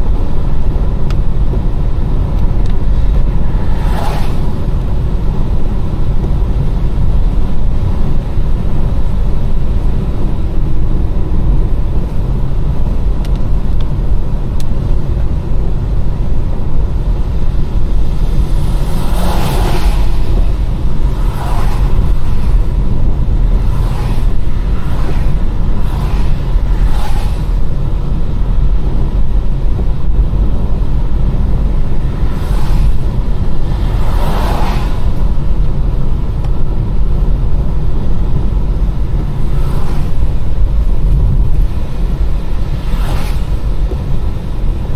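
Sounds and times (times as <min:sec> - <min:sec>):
engine and tyres rumbling: 0:00.0 - 0:44.9.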